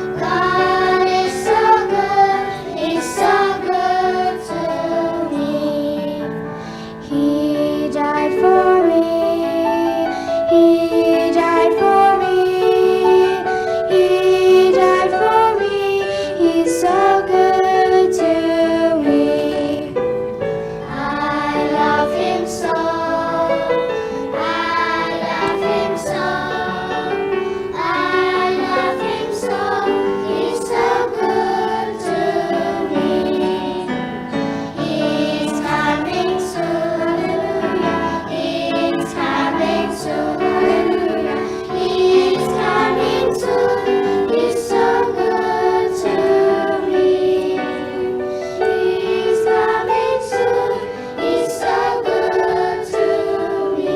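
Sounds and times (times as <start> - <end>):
group of voices singing: 0.0 - 20.1, 20.8 - 53.9
instrumental accompaniment: 0.0 - 53.9.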